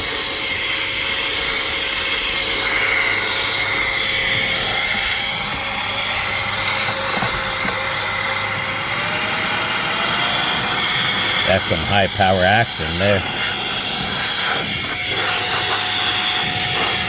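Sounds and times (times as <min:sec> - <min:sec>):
mini vacuum motor whining: 0:00.0 - 0:17.0.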